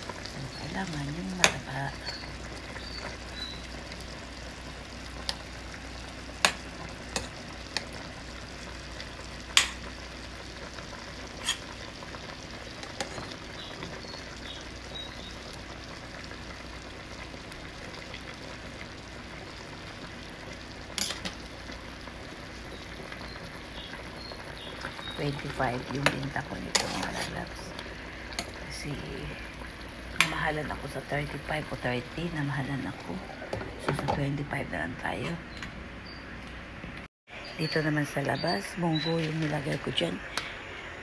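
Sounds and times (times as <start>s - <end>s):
sauce bubbling and hissing: 0.0s - 34.0s.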